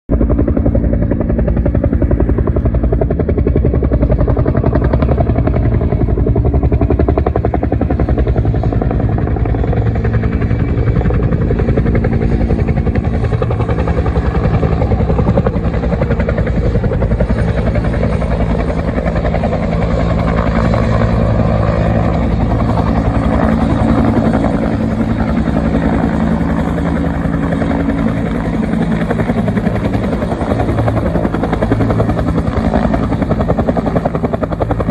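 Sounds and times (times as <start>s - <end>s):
helicopter rotor blades chopping: 0.1s - 34.9s.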